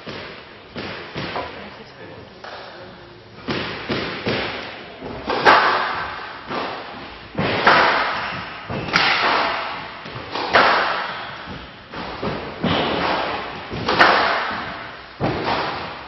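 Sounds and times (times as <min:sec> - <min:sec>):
squash ball hitting rackets and walls: 0:00.0 - 0:01.7, 0:03.4 - 0:16.0.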